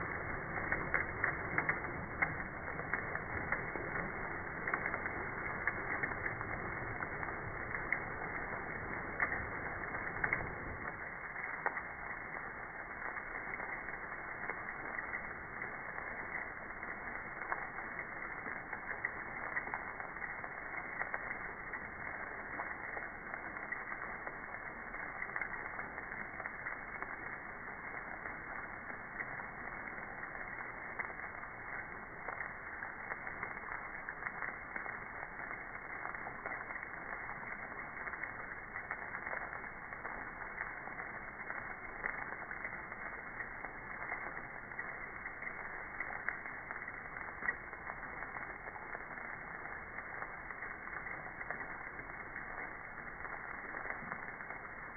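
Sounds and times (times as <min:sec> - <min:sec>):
hailstones striking hard surfaces: 0:00.0 - 0:54.9.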